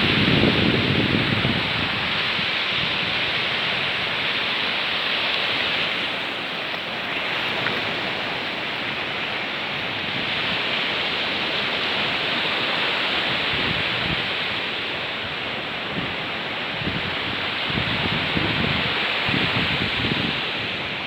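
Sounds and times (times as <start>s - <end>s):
waterfall and stream rushing: 0.0s - 21.0s.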